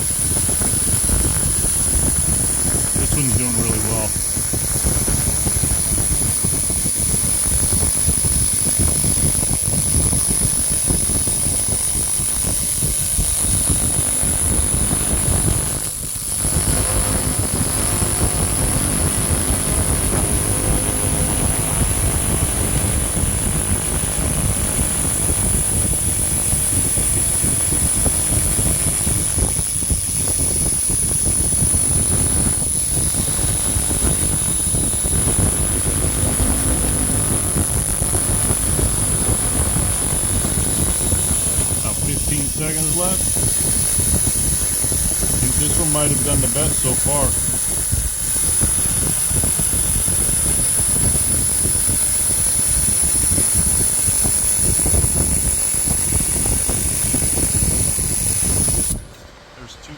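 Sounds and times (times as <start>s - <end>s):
laser cleaner whine: 0.0s - 59.3s.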